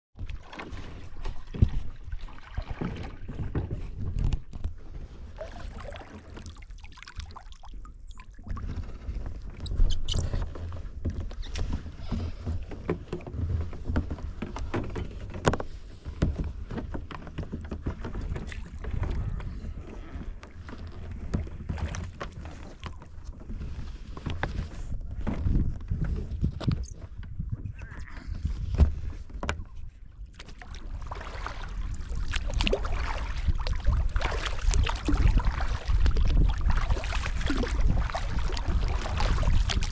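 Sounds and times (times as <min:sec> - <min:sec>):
wind rumble on microphone: 0:00.2 - 0:06.3, 0:07.8 - 0:39.9
paddle splashing in water: 0:00.2 - 0:39.9.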